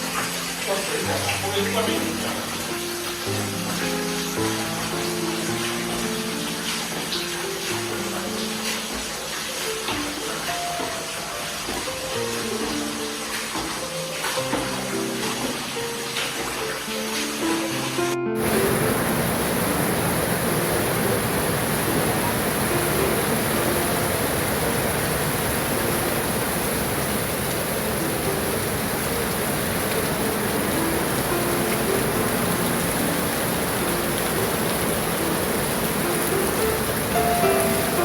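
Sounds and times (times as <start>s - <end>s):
faint music: 0.0s - 38.0s
heavy rain pouring: 0.0s - 38.0s.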